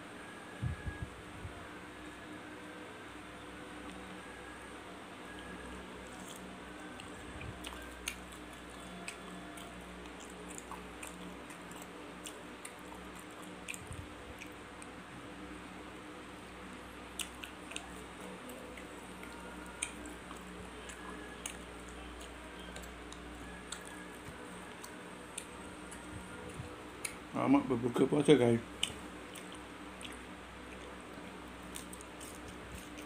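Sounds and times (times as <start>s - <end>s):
steady low hum: 0.0s - 33.0s
chewing food: 5.2s - 15.0s, 15.8s - 33.0s.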